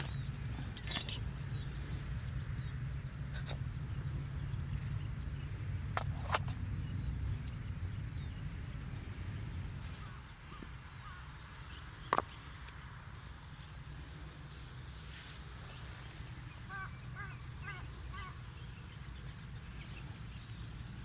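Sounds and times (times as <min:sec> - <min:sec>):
campfire burning rumble: 0:00.0 - 0:21.0.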